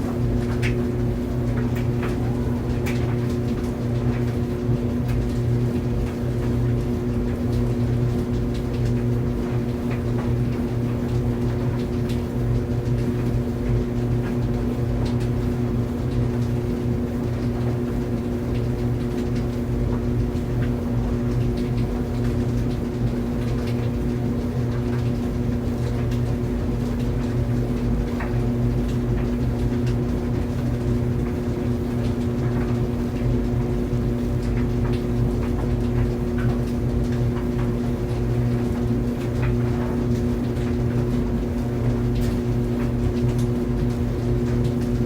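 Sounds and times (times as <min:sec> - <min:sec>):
clothes dryer running: 0:00.0 - 0:45.0.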